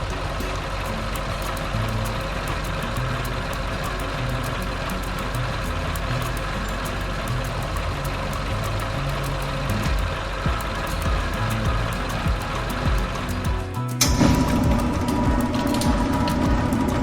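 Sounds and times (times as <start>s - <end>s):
background music with bass line: 0.0s - 17.0s
engine-like rumble: 0.0s - 17.0s
high ticks: 0.0s - 17.0s.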